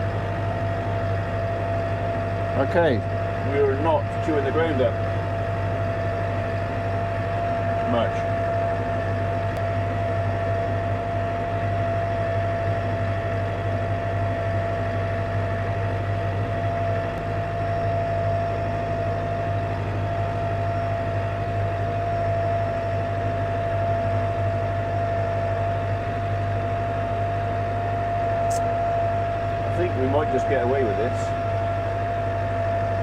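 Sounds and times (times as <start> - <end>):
high whine: 0.0 - 14.0, 16.4 - 33.0.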